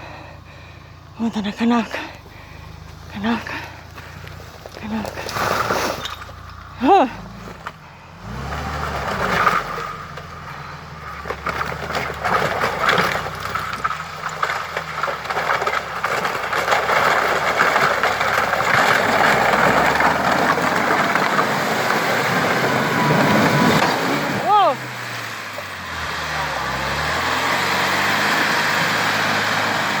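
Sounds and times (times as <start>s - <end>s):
off-road vehicle engine under load: 0.0s - 30.0s.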